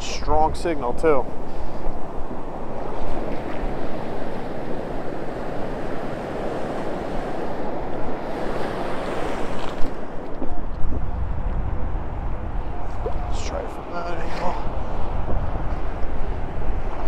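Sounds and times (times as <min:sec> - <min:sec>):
surf washing and foaming: 0:00.0 - 0:17.0
wind rumbling on microphone: 0:00.0 - 0:17.0.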